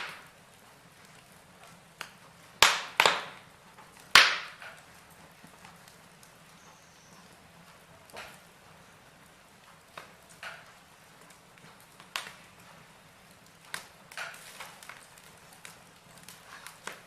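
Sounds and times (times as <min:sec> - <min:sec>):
fire hissing: 0:00.0 - 0:17.0
logs crackling and popping: 0:00.0 - 0:17.0.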